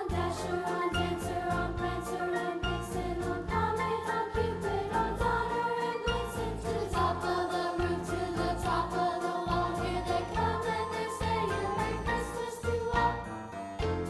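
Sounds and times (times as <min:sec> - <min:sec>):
children's choir singing: 0:00.0 - 0:13.5
bass line: 0:00.1 - 0:14.0.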